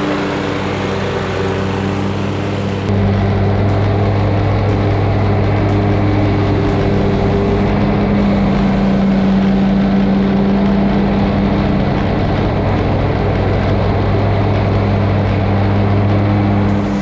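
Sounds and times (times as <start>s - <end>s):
lawn mower cutting grass: 0.0s - 17.0s.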